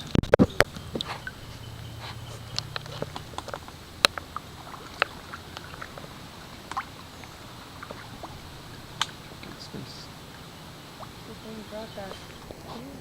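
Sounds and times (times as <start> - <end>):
faint low hum: 0.0 - 13.0
water drips: 0.4 - 12.8.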